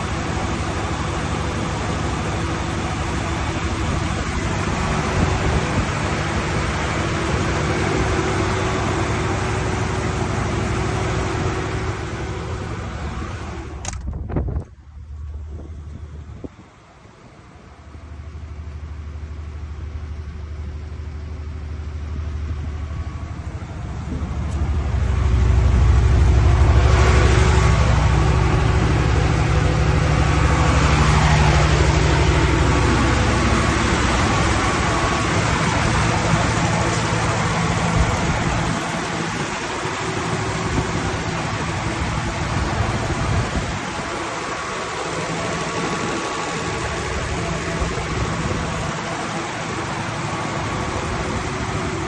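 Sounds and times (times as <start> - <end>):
diesel generator droning: 0.0 - 52.0.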